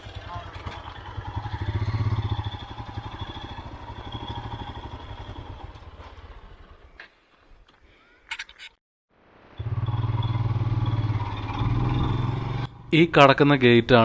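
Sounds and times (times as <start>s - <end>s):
motorcycle engine idling: 0.0s - 7.1s, 9.6s - 14.0s.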